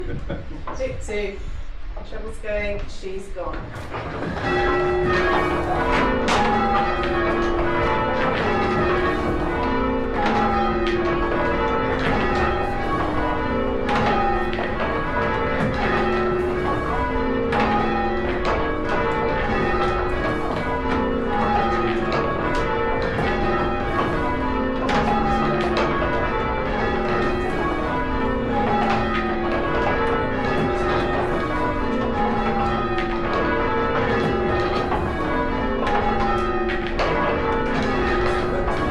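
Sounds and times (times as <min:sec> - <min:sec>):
church bells change ringing: 0:03.5 - 0:38.9.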